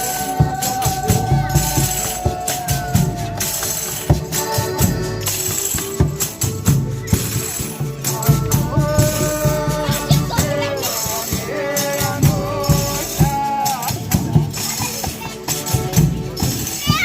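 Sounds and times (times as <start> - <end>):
held melody notes: 0.0 - 17.0
low drumbeats: 0.0 - 17.0
tambourine shaking and striking: 0.0 - 17.0.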